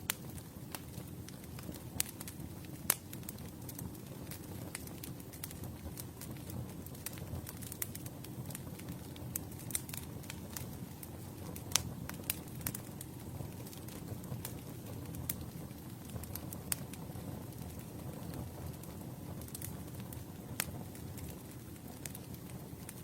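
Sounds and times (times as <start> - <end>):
campfire crackling: 0.0 - 23.0
fire pops and snaps: 0.0 - 23.0.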